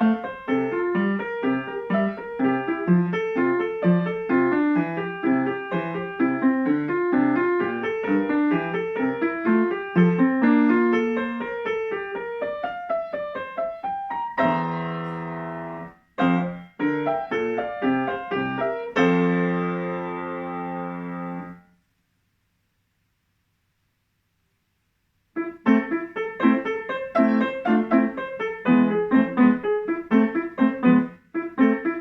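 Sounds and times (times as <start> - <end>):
solo piano playing: 0.0 - 21.7, 25.4 - 32.0.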